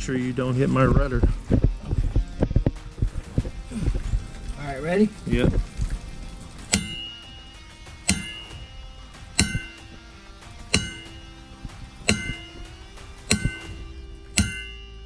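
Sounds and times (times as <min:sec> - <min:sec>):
hammer striking metal clang: 0:02.8 - 0:15.0.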